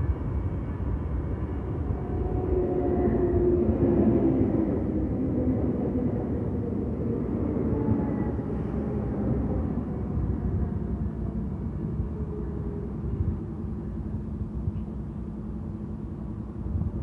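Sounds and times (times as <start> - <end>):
faint engine drone: 0.0 - 17.0
freight train rumble: 0.0 - 17.0.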